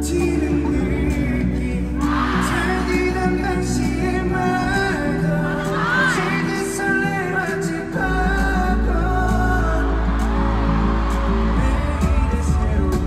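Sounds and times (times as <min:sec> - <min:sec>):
man singing into microphone: 0:00.0 - 0:13.0
pop backing music with drums: 0:00.0 - 0:13.0.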